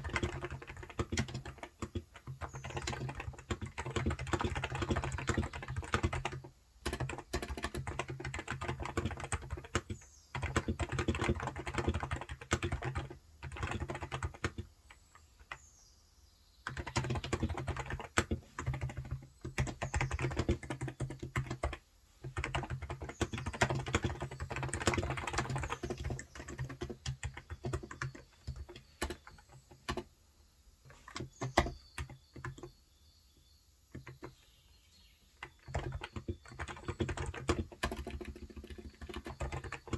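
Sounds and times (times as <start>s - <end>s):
faint bird chirps: 0.0s - 6.4s, 7.0s - 39.9s
keyboard typing: 0.0s - 15.6s, 16.7s - 30.1s, 30.9s - 32.7s, 33.9s - 34.4s, 35.4s - 39.9s.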